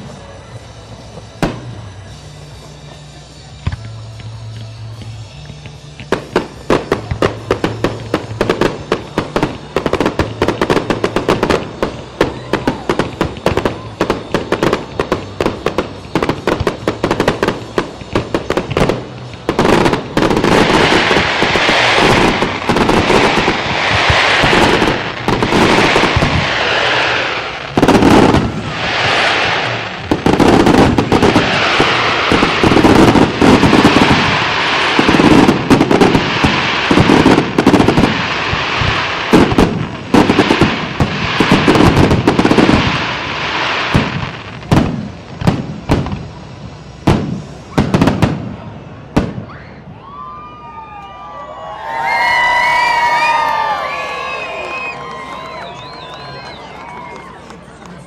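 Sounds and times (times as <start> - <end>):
fireworks cracking and banging: 0.0 - 58.0.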